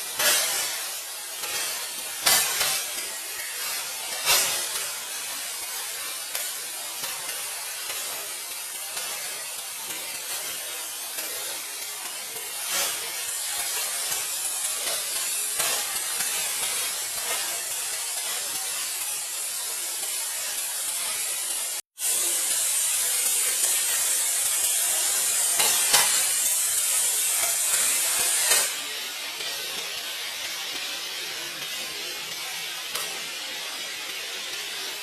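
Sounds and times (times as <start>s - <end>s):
steady high hiss: 0.0s - 35.0s.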